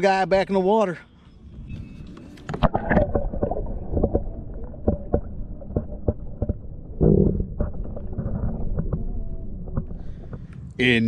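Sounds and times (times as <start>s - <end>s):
underwater rumble of moving water: 1.4s - 11.0s
underwater whoosh: 1.5s - 10.7s.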